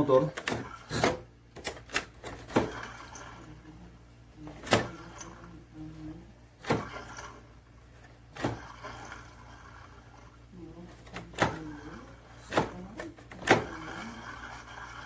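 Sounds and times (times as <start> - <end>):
blower fan motor humming: 0.0 - 15.0.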